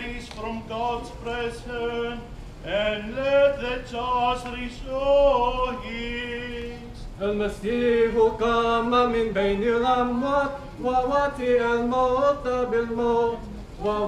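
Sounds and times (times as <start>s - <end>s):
man chanting a hymn: 0.0s - 14.0s.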